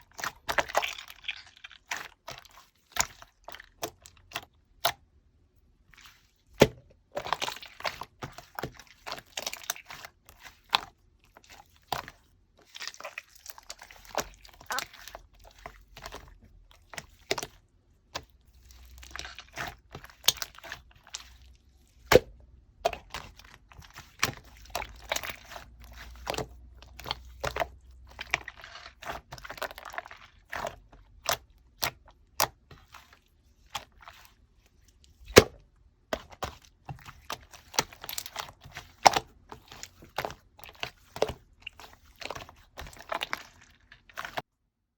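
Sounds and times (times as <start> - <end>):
hands squishing slime: 0.0 - 44.4.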